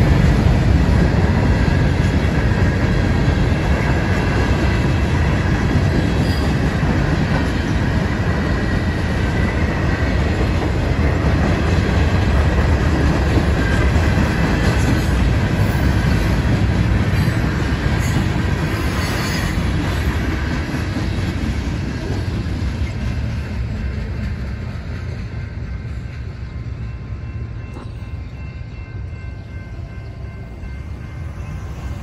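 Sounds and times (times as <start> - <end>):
freight train rumbling: 0.0 - 32.0.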